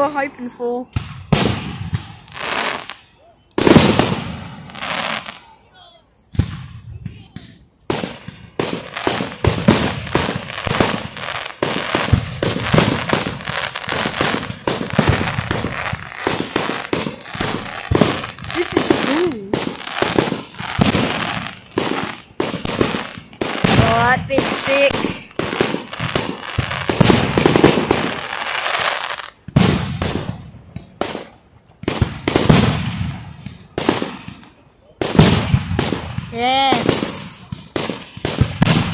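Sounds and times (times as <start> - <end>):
fireworks bangs: 0.0 - 5.7, 6.3 - 38.9
fireworks crackling: 0.0 - 38.9.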